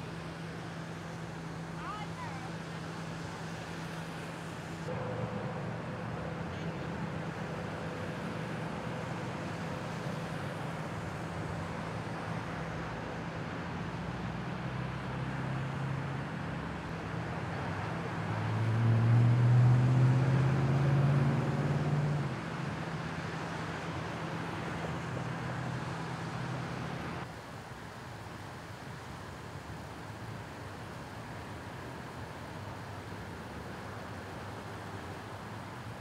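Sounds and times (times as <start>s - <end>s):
road noise: 0.0s - 36.0s.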